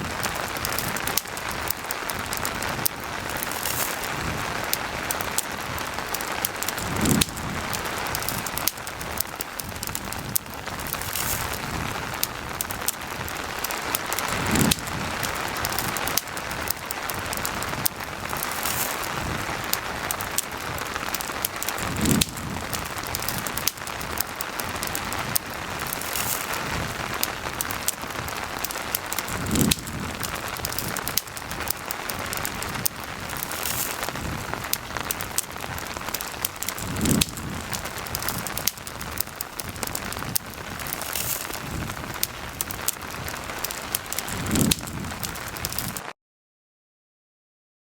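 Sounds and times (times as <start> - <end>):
campfire crackling: 0.0 - 46.1
rain falling: 0.0 - 46.1.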